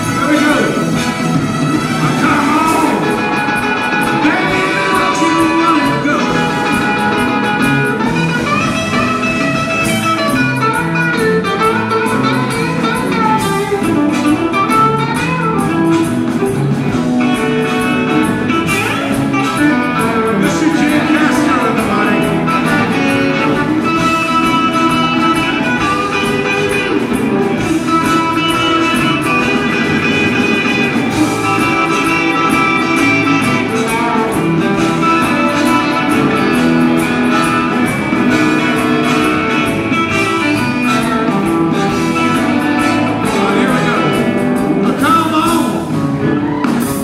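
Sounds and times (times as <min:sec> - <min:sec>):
bass line: 0:00.0 - 0:47.0
drums: 0:00.0 - 0:47.0
electric guitars playing: 0:00.0 - 0:47.0.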